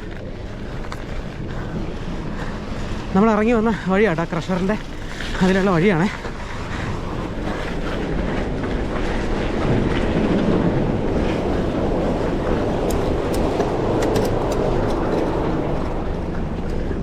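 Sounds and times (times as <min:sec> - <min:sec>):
bike rattling over gravel: 0:00.0 - 0:17.0
wind on microphone: 0:00.0 - 0:17.0.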